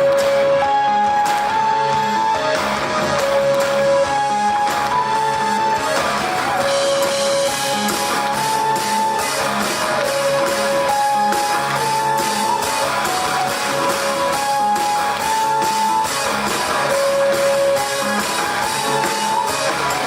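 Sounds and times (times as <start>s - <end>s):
melody of long held notes: 0.0s - 20.0s
strummed guitar: 0.0s - 20.0s
steady drum beat: 1.3s - 20.0s.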